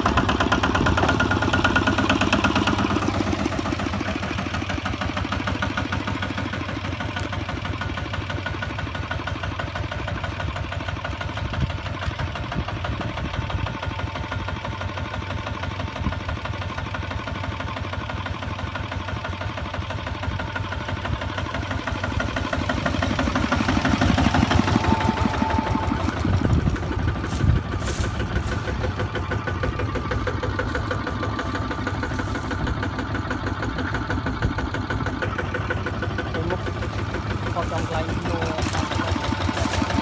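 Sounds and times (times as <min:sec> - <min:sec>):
diesel engine chugging: 0:00.0 - 0:40.0.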